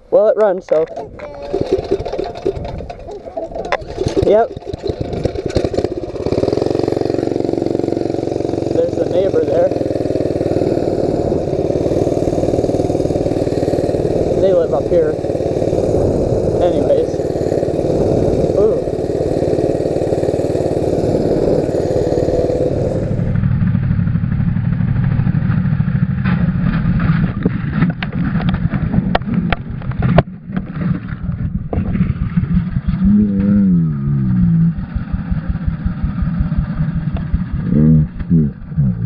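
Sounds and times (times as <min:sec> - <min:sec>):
metal scraping on road: 0:00.7 - 0:24.1, 0:25.0 - 0:32.9
small engine running: 0:01.1 - 0:27.4, 0:31.8 - 0:39.0.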